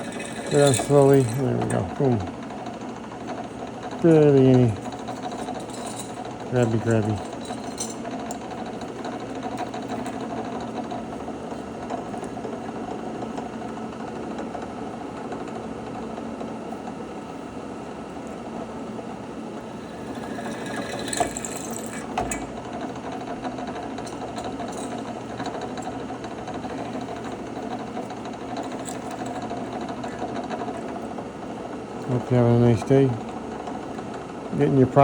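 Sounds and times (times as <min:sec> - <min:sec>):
drill press motor running: 0:00.0 - 0:15.6, 0:19.1 - 0:35.0.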